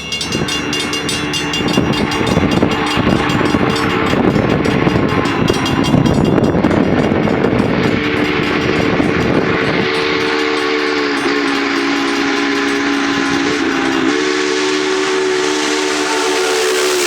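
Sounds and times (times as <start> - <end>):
passing train noise: 0.0 - 17.0
steam locomotive chime whistle: 0.0 - 17.0.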